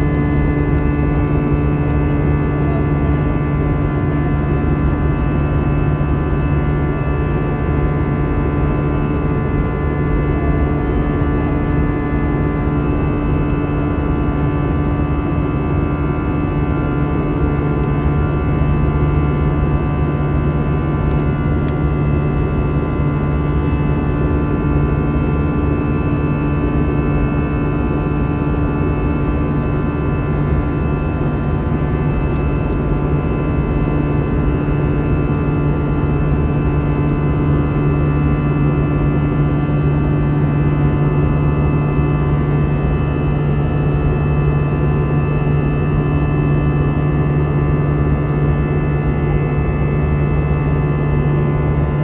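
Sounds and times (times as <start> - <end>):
airplane cabin engine drone: 0.0 - 52.0.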